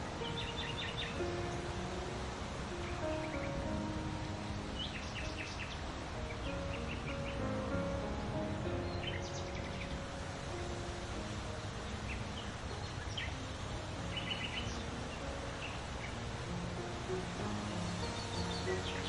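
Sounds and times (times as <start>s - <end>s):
low outdoor background hiss: 0.0s - 19.0s
songbirds chirping: 0.0s - 19.0s.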